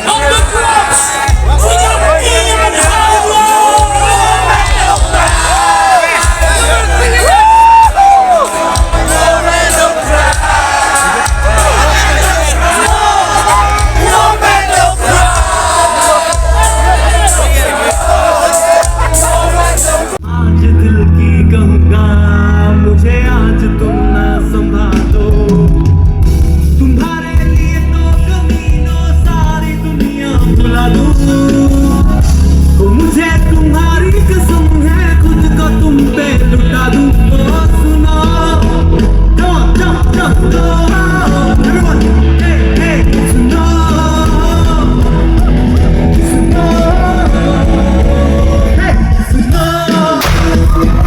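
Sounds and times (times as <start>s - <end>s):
music with singing: 0.0s - 51.0s
strong bass line: 0.0s - 51.0s.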